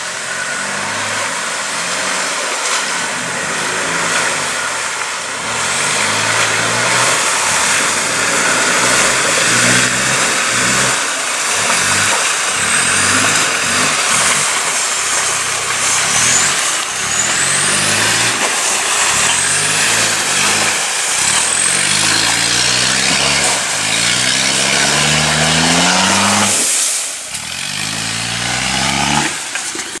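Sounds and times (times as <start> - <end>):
truck engine revving: 0.0 - 30.0
water splashing around wheels: 0.0 - 30.0.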